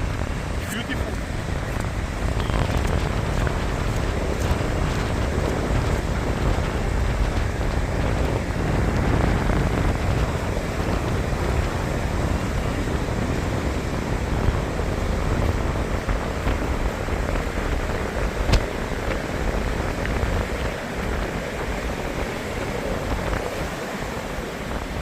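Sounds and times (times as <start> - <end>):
breaking surf: 0.0 - 25.0
wind on microphone: 0.0 - 25.0.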